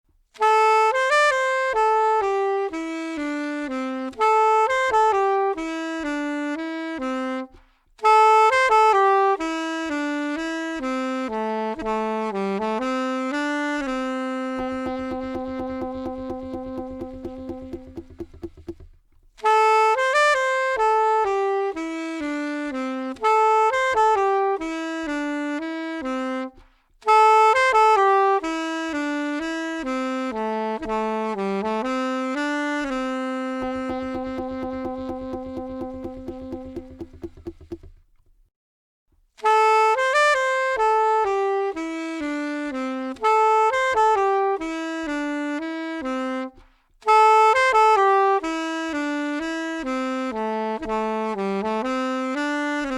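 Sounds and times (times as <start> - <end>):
saxophone playing slow melody: 0.3 - 38.1, 39.4 - 52.9.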